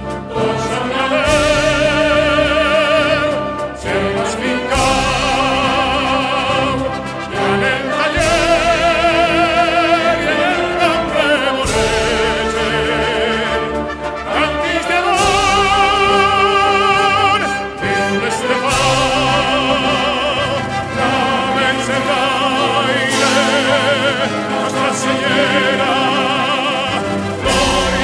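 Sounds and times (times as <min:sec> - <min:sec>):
operatic solo singing: 0:00.0 - 0:28.0
orchestral backing: 0:00.0 - 0:28.0.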